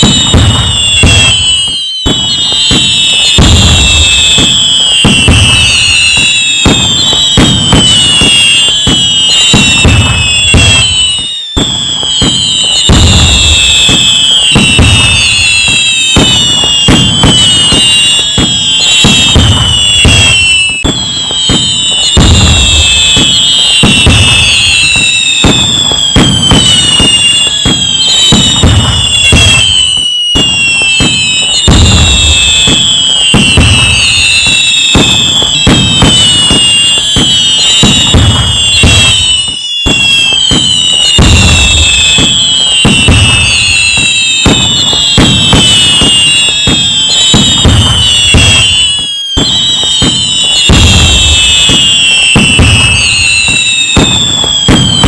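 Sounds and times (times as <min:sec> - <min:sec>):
fireworks bangs and crackles: 0:00.0 - 0:55.0
fireworks whistling: 0:00.0 - 0:55.0.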